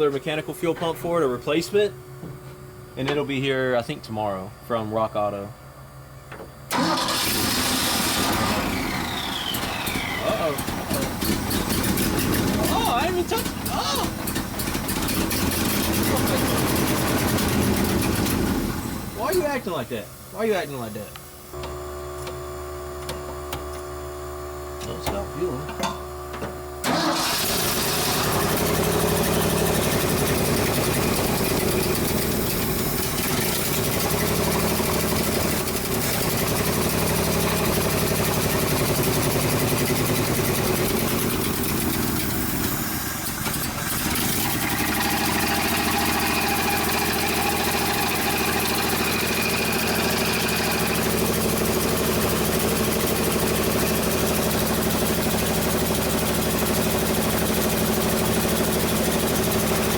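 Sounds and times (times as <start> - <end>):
truck engine starting and running: 6.2 - 59.9.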